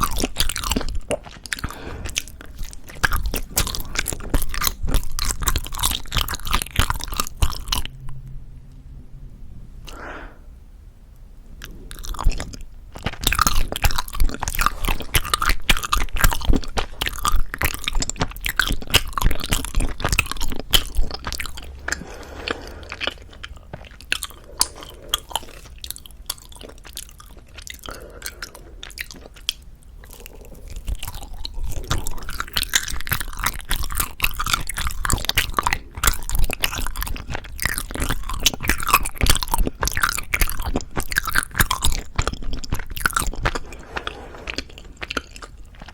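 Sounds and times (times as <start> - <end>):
chewing sticky rice cake: 0.0 - 8.2, 11.6 - 45.9.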